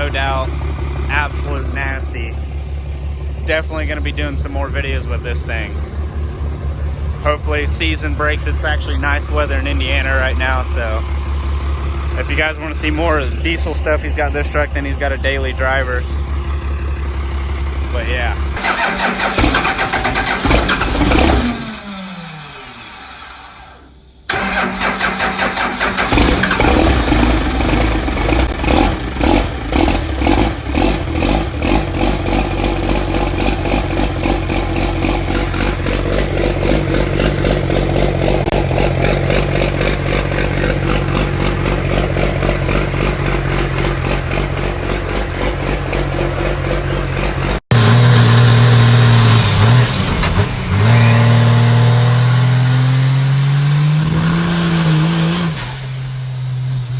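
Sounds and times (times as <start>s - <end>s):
diesel engine droning: 0.0s - 56.9s.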